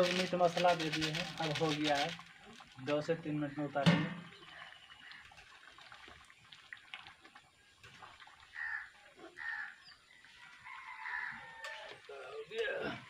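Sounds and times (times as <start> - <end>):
curry simmering and spluttering: 0.0 - 13.0.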